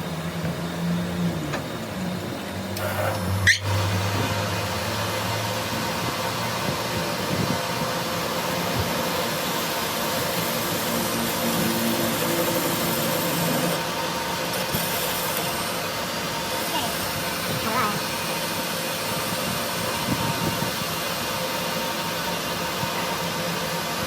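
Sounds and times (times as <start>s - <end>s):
machine hiss and hum: 0.0s - 24.0s.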